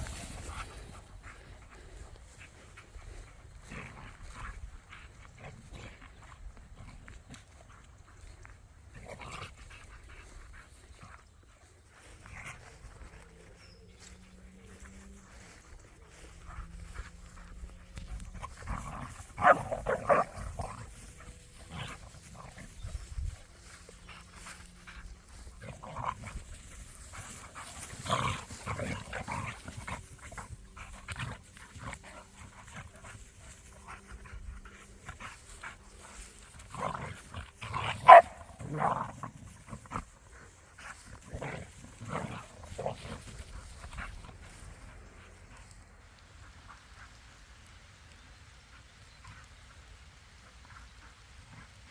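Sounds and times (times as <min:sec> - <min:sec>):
dogs panting: 0:00.0 - 0:47.4.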